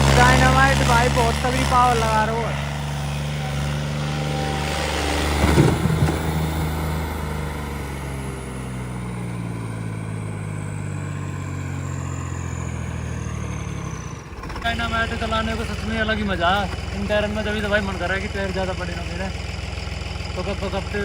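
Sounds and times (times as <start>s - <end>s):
tractor engine under heavy load: 0.0s - 21.0s.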